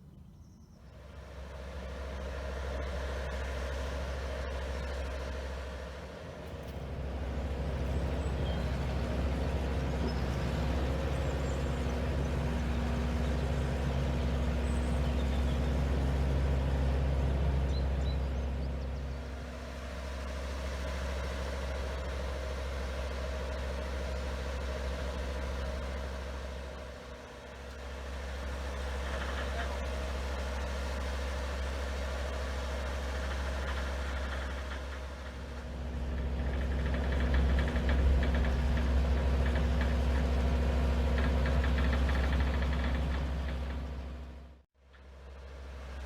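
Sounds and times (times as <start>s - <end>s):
truck diesel engine running: 1.0s - 46.0s.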